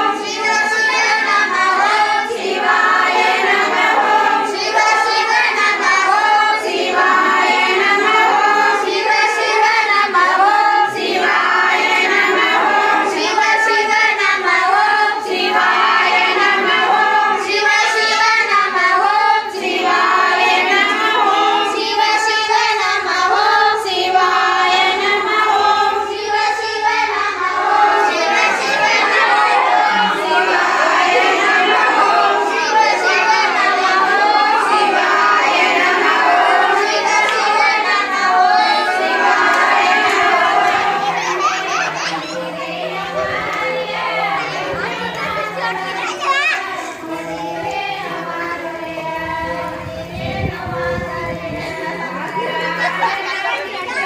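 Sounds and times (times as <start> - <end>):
women singing together: 0.0 - 54.0.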